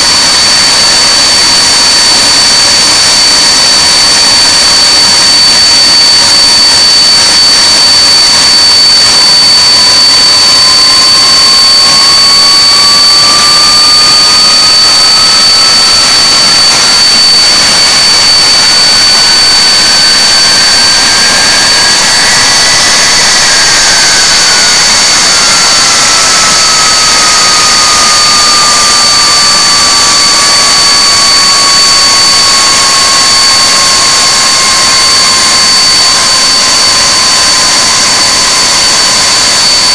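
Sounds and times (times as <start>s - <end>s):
jet engine rush with whine: 0.0s - 39.9s
lower engine whine rising in pitch: 0.0s - 39.9s.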